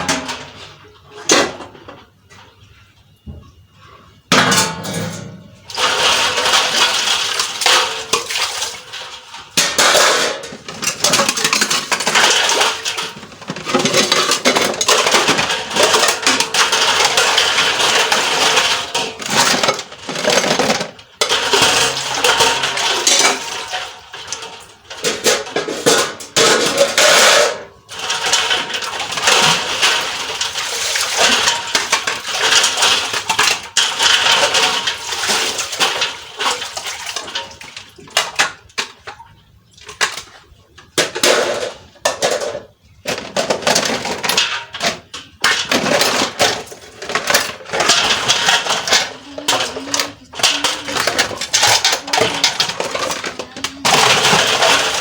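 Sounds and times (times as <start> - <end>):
dishes and cutlery clattering: 0.0 - 55.0.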